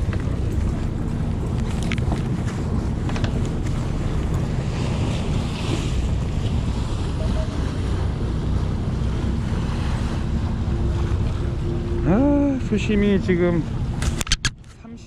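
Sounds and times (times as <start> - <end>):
boat engine drone: 0.0 - 15.0
sea noise: 0.0 - 15.0.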